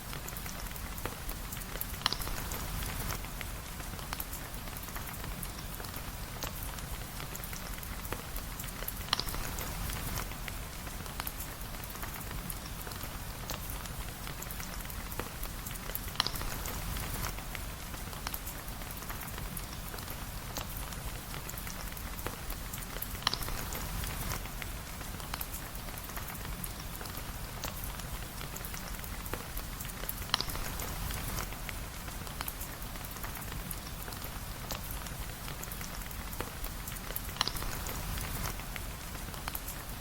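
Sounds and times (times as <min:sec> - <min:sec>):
rain patter: 0:00.0 - 0:40.0.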